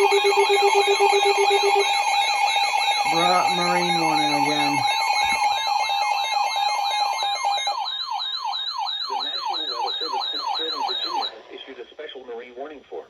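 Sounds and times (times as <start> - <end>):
electronic emergency alert alarm: 0.0 - 11.5.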